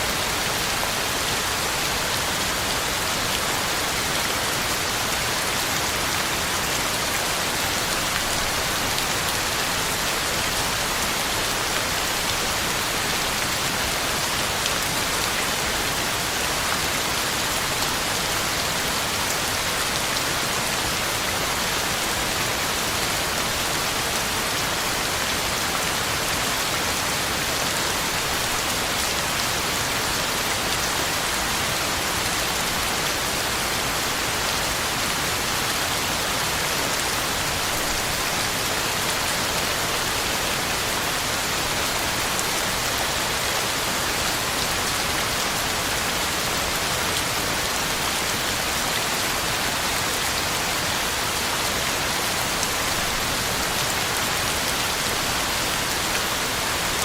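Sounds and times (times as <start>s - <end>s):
heavy rain on ground and leaves: 0.0s - 57.0s.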